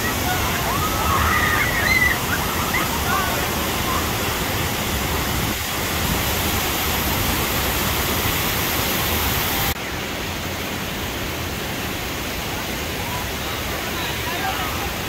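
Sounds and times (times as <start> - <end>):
rushing white water: 0.0 - 15.0.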